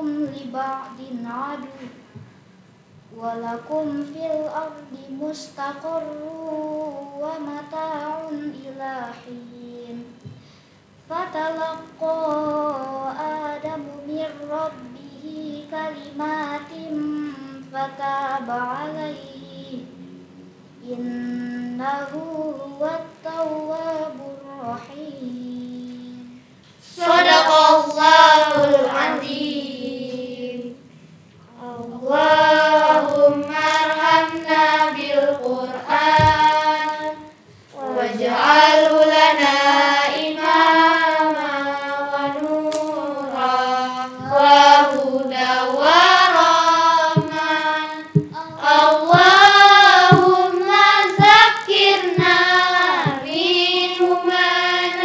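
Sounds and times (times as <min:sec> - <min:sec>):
girls chanting melodic recitation: 0:00.0 - 0:02.4, 0:03.1 - 0:55.0.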